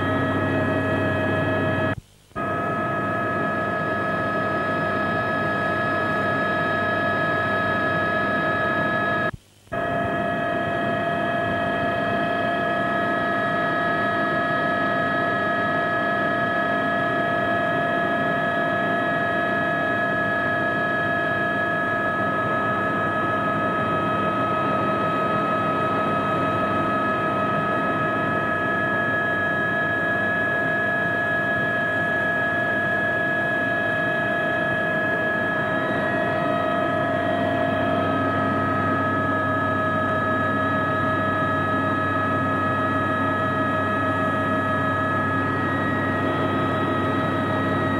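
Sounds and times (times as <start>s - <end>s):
helicopter turbine whine: 0.0s - 47.9s.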